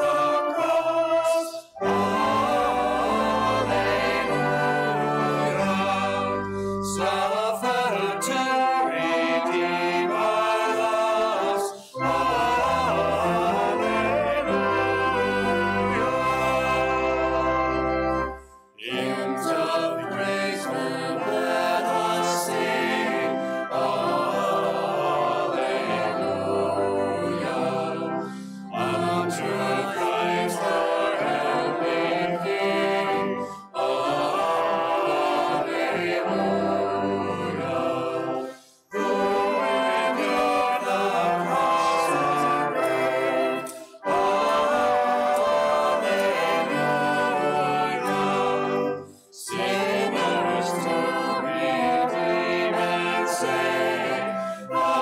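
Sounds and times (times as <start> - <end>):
choir singing a hymn: 0.0 - 55.0
sustained instrumental accompaniment: 0.0 - 55.0.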